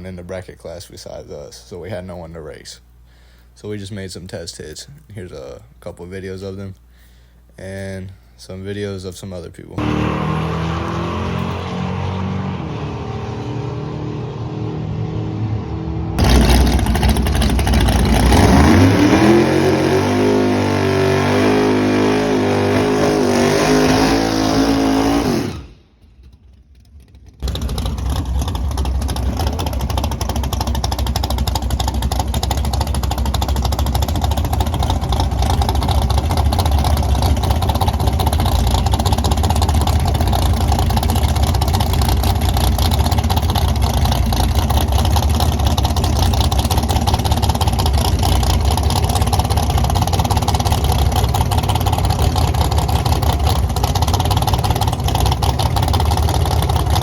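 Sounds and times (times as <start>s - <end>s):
drag racing engine at full throttle: 9.8s - 57.0s
engine droning with rushing noise: 9.8s - 57.0s.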